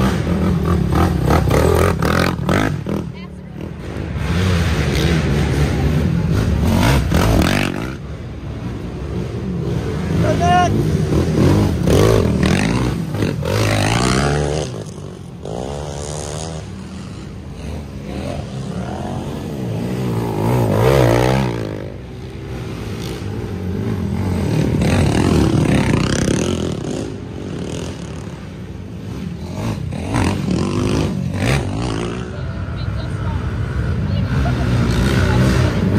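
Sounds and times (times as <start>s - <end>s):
quad engines revving: 0.0s - 35.9s.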